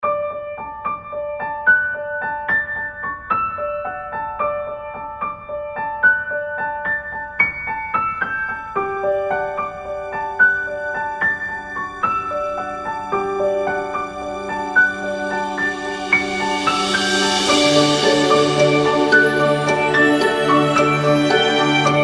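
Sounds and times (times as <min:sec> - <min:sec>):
gentle piano notes: 0:00.0 - 0:22.0.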